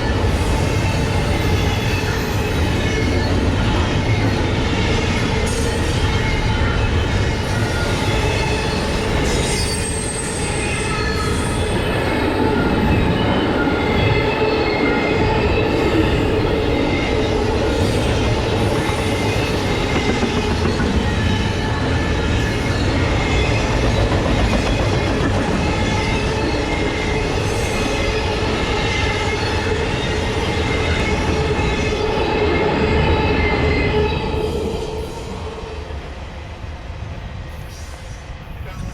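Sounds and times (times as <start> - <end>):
high flange squeal: 0.0 - 36.1
train wheels rumbling on rails: 0.0 - 38.9.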